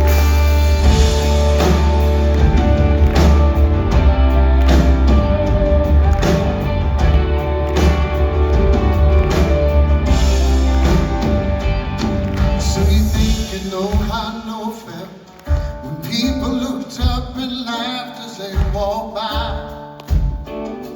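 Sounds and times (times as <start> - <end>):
drum beat: 0.0 - 17.7, 18.5 - 20.7
live band playing: 0.0 - 20.9.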